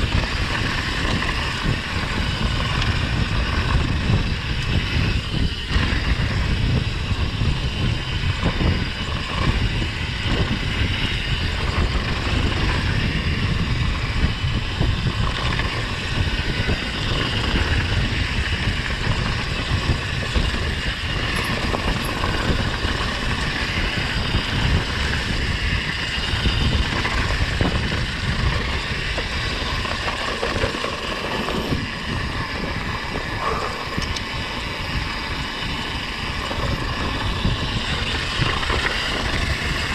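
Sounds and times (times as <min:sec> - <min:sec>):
bike rolling and rattling: 0:00.0 - 0:39.9
wind buffeting microphone: 0:00.0 - 0:39.9.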